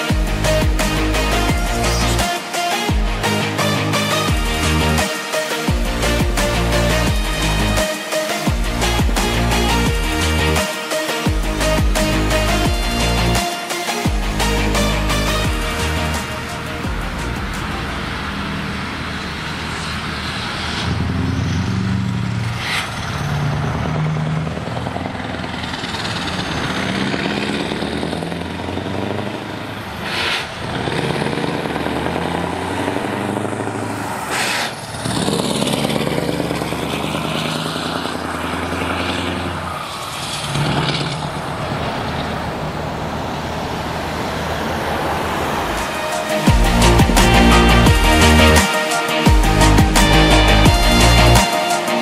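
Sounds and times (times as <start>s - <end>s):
diesel truck accelerating: 0.0s - 52.0s.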